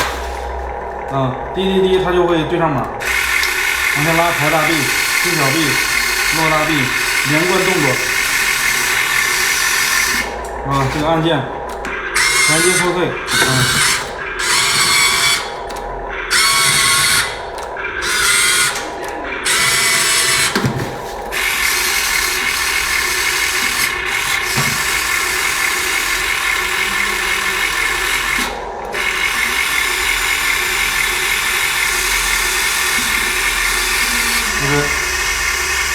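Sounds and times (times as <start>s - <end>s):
electric motor and hydraulic pump whining: 0.0s - 35.9s.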